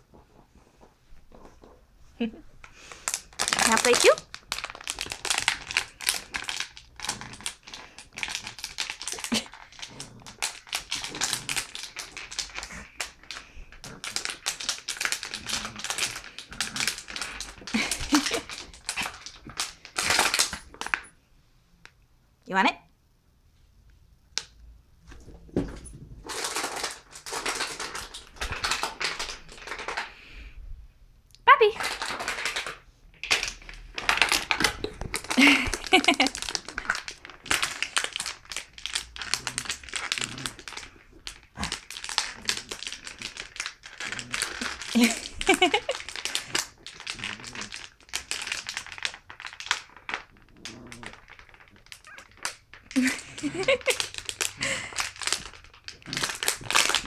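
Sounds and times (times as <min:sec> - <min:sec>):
plastic bottle crackling: 0:02.7 - 0:21.1, 0:26.2 - 0:30.1, 0:31.8 - 0:57.0.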